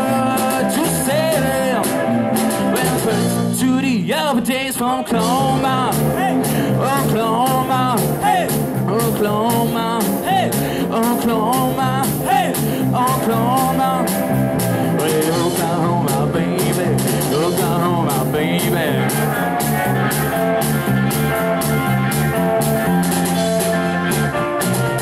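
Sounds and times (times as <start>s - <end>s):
steady drum beat: 0.0s - 3.8s, 5.2s - 25.0s
electric guitar lead line: 0.0s - 25.0s
rockabilly band playing: 0.0s - 25.0s
walking electric bass line: 0.0s - 25.0s.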